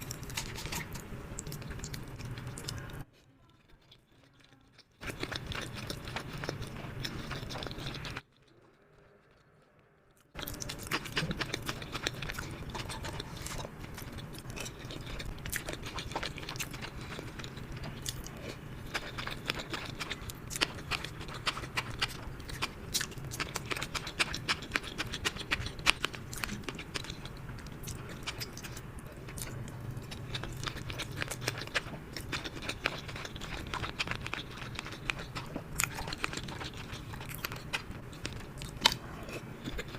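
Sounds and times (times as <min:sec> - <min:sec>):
chewing and biting: 0:00.0 - 0:03.0, 0:03.6 - 0:09.6, 0:10.3 - 0:39.9
faint low hum: 0:00.0 - 0:39.9.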